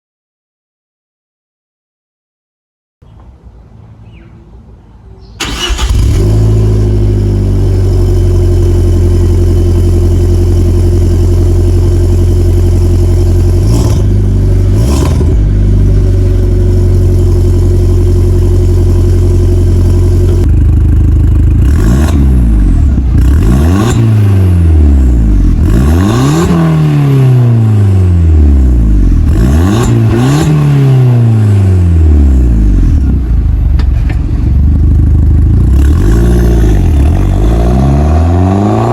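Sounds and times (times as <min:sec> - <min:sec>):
car engine idling and revving: 0:05.4 - 0:38.9.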